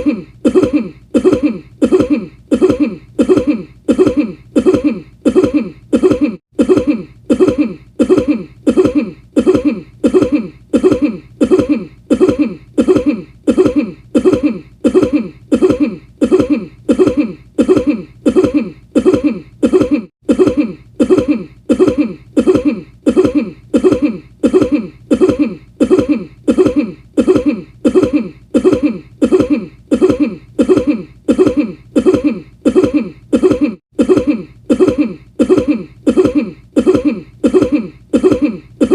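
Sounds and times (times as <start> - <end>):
person coughing: 0.0 - 38.9.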